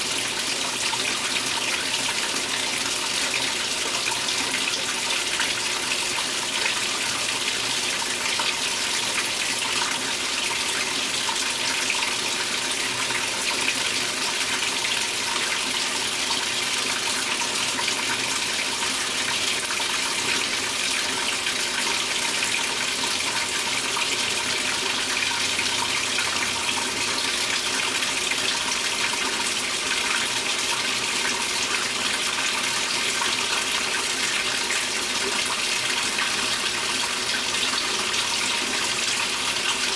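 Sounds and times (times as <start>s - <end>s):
water pouring into washer tub: 0.0s - 39.9s.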